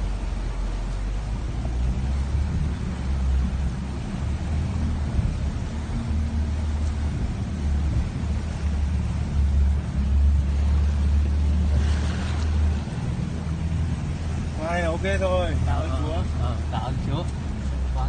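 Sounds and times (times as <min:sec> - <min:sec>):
vehicle engine rumbling: 0:00.0 - 0:18.0
water rushing: 0:00.0 - 0:18.0.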